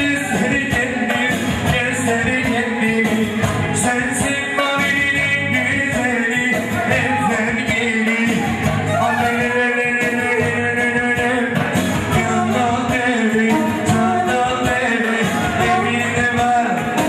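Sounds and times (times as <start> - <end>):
loud dance music: 0.0 - 17.0
man singing into microphone: 0.0 - 17.0.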